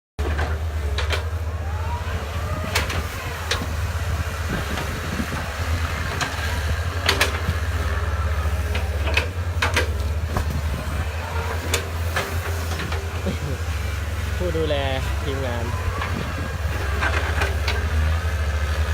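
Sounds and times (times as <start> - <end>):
diesel engine rumbling: 0.2 - 18.9.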